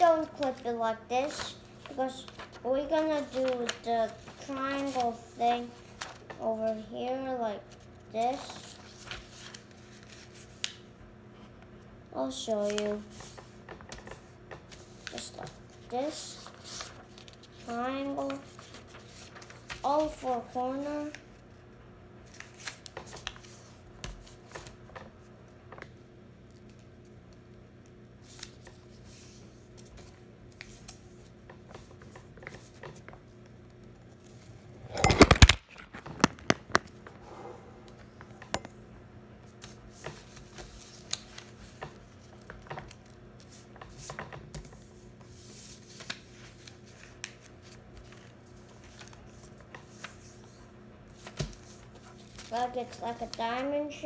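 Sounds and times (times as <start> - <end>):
paper rustling and creasing: 0.0 - 6.9, 7.6 - 10.8, 12.3 - 21.6, 22.2 - 25.9, 26.5 - 37.0, 39.4 - 54.0.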